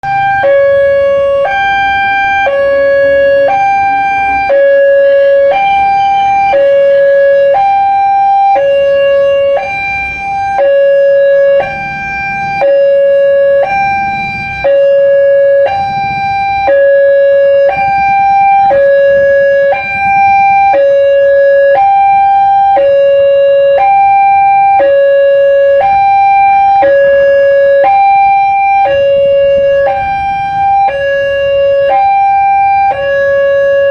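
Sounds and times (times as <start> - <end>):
two-tone warning siren: 0.0 - 33.9.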